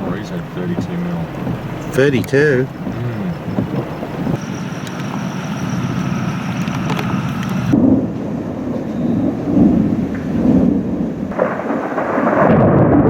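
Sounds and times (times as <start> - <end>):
rain falling: 0.0 - 13.0
thunder rumbling: 0.0 - 13.0.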